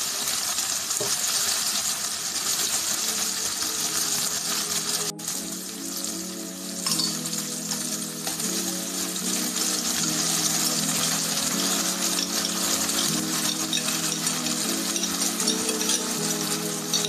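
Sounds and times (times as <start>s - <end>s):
food sizzling in a frying pan: 0.0s - 17.0s
soft background music: 2.3s - 17.0s.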